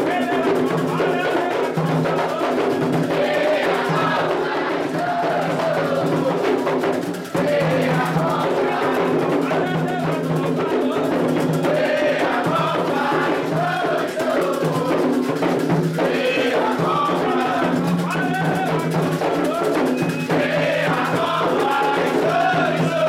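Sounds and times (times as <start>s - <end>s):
group singing a chant: 0.0s - 23.0s
hand drums playing: 0.0s - 23.0s.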